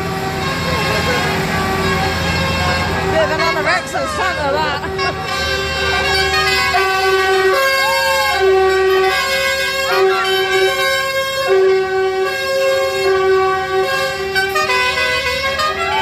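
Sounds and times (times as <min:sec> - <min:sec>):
vehicle horns tooting: 0:00.0 - 0:16.0.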